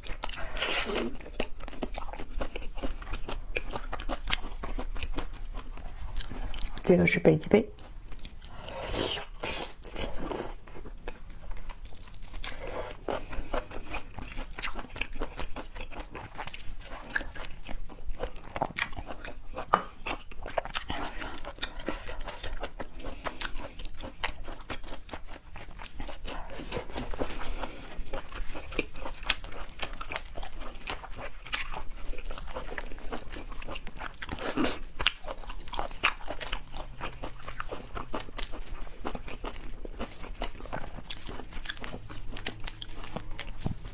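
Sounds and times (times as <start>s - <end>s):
person chewing: 0.0s - 6.9s, 7.7s - 43.9s.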